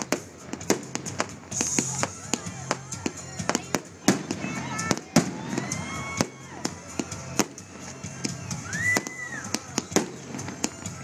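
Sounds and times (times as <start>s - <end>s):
firework whistle: 0.0s - 2.4s, 4.1s - 11.0s
fireworks bangs and crackles: 0.0s - 11.0s.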